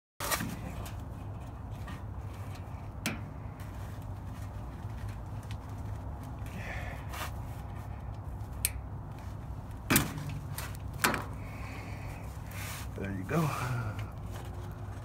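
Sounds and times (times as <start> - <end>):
steady low hum: 0.5 - 15.0.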